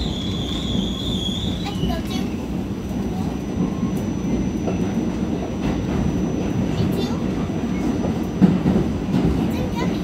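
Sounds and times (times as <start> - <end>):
subway wheels rumbling on rail: 0.0 - 10.0.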